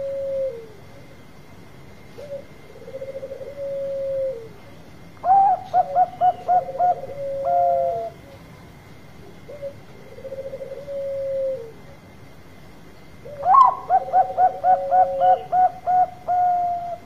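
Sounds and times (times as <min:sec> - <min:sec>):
dove cooing: 0:00.0 - 0:01.0, 0:02.1 - 0:08.5, 0:09.3 - 0:12.1, 0:13.2 - 0:17.0.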